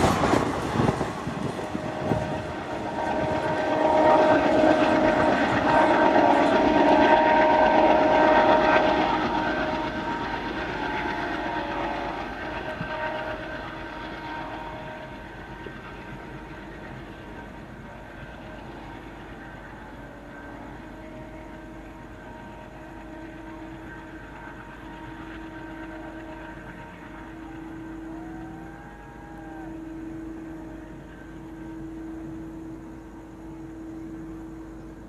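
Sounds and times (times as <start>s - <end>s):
steady high tones: 0.0s - 35.0s
train passing with rattling coaches: 0.0s - 35.0s.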